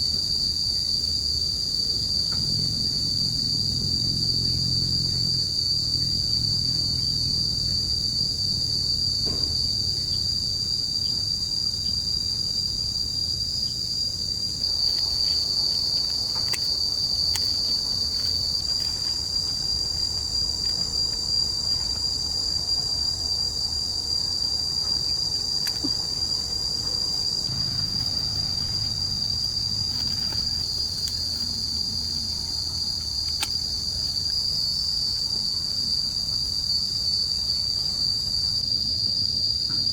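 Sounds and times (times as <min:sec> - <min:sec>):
insects chirring: 0:00.0 - 0:39.9
low rumbling background: 0:00.4 - 0:38.8.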